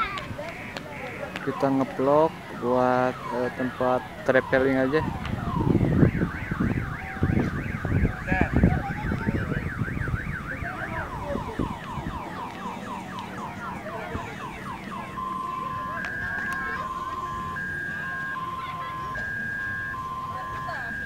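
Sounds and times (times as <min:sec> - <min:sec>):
people talking: 0:00.0 - 0:05.8, 0:06.8 - 0:21.0
electronic siren warbling: 0:00.6 - 0:21.0.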